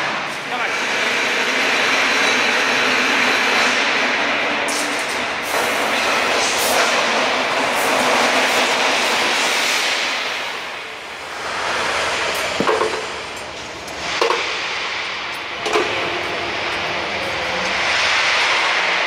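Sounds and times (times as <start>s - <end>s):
rebar clattering on roller conveyor: 0.0s - 19.0s.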